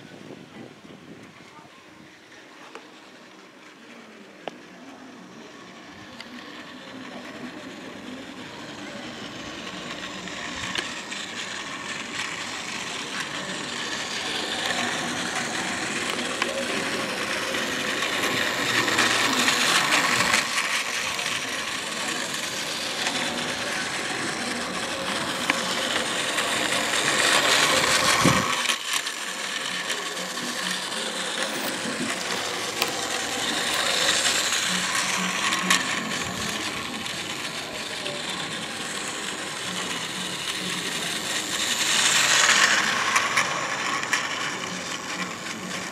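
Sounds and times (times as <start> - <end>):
toy train motor whirring: 2.2 - 45.9.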